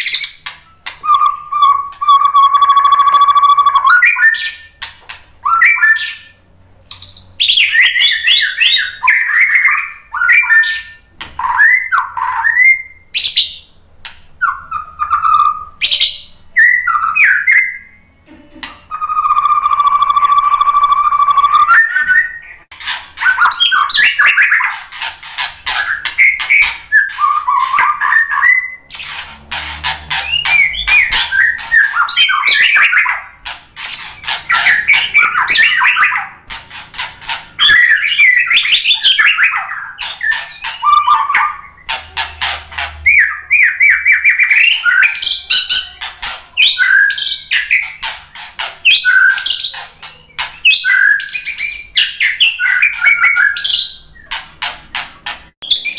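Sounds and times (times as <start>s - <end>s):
bird singing whistled phrases: 0.0s - 4.8s, 5.4s - 13.7s, 14.4s - 18.1s, 18.9s - 22.6s, 23.2s - 24.7s, 25.7s - 29.1s, 30.1s - 36.3s, 37.6s - 41.9s, 43.1s - 46.0s, 46.6s - 48.0s, 48.9s - 54.3s.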